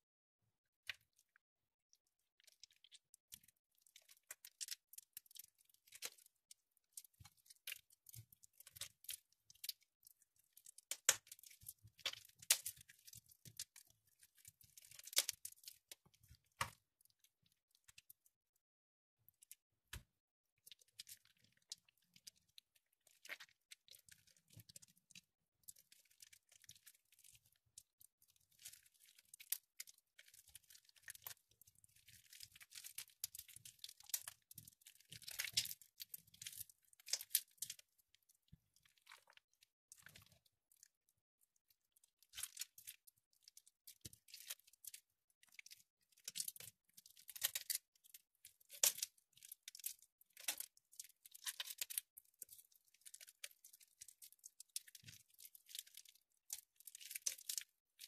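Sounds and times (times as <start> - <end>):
wet soap crackling and crunching: 0.8 - 18.6, 19.2 - 58.0.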